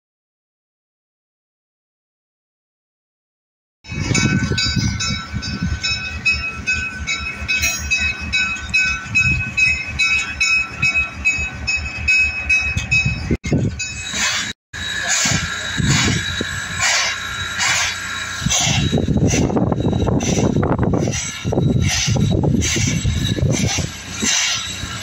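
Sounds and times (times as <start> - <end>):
train wheels clicking over rail joints: 3.9 - 25.0
wheels squealing on rails: 3.9 - 25.0.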